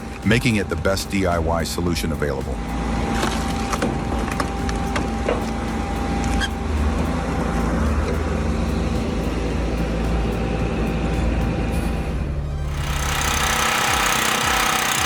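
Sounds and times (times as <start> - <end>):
wood-processing machine engine: 0.0 - 15.0.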